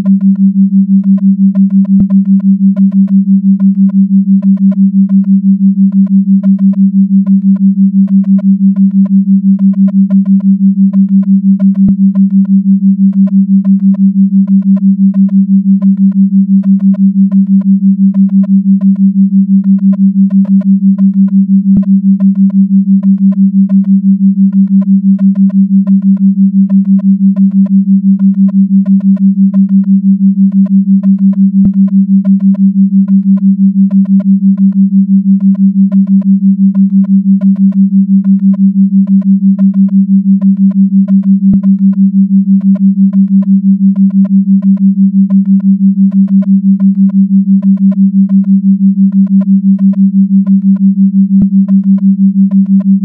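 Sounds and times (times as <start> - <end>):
pulsing sine tone: 0.0 - 53.0.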